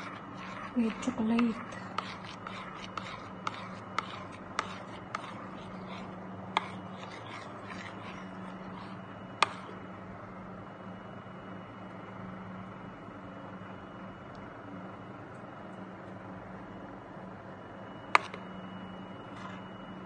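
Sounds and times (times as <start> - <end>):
low hum of room tone: 0.0 - 20.0.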